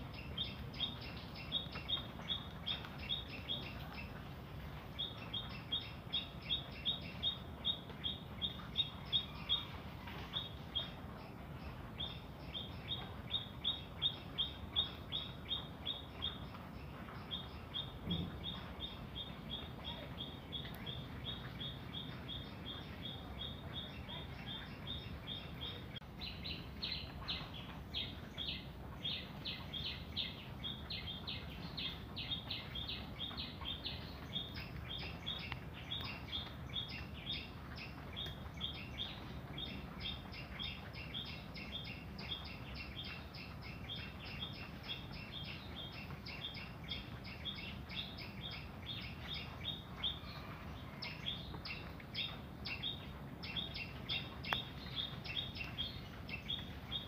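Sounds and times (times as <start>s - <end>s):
small bird chirping: 0.0s - 57.0s.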